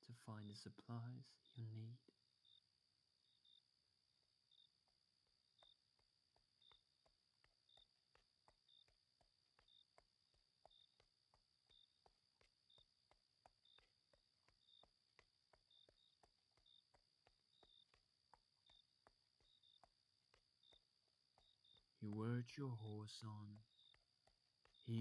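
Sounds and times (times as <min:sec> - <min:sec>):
crickets trilling: 0:00.0 - 0:25.0
horse hooves clip-clop: 0:04.2 - 0:25.0.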